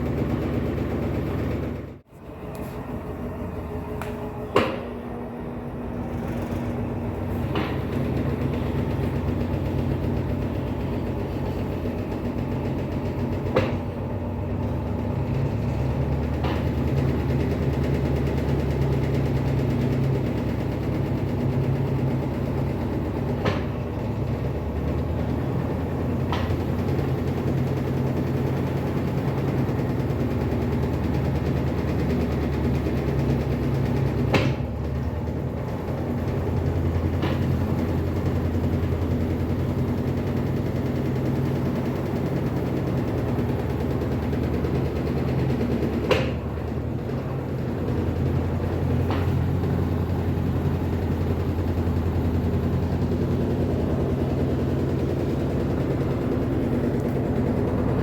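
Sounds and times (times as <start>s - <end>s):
washing machine motor hum: 0.0s - 58.0s.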